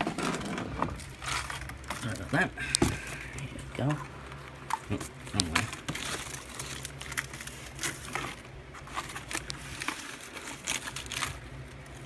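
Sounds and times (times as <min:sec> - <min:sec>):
dry palm frond rustling: 0:00.0 - 0:12.0
low steady hum: 0:00.0 - 0:12.0.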